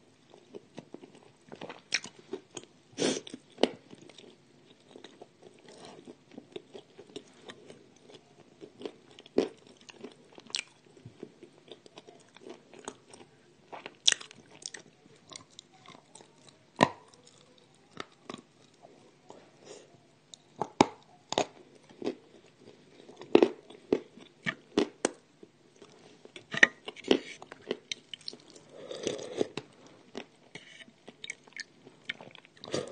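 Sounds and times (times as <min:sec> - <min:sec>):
person chewing: 0:00.3 - 0:18.9, 0:19.7 - 0:25.2, 0:25.8 - 0:32.9.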